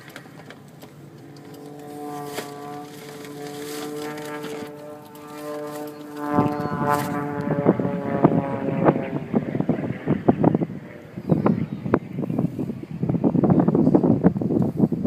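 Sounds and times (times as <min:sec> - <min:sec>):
distant airplane engine droning: 0:00.0 - 0:15.0
wind buffeting microphone: 0:00.0 - 0:15.0.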